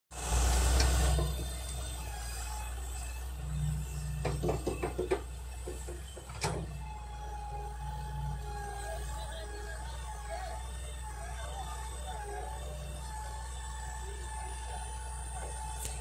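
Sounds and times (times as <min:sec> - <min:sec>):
crane engine idling: 0:00.1 - 0:16.0.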